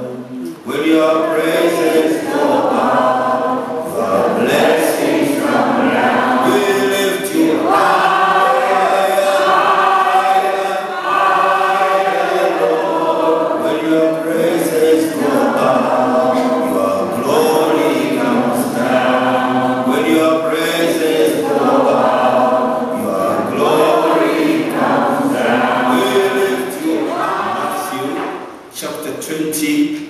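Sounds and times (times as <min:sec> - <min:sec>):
congregation singing: 0:00.0 - 0:30.0.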